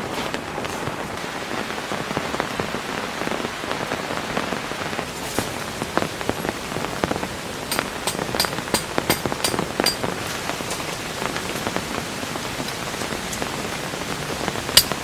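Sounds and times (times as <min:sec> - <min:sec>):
heavy rain: 0:00.0 - 0:15.0
raindrops striking close by: 0:00.0 - 0:15.0.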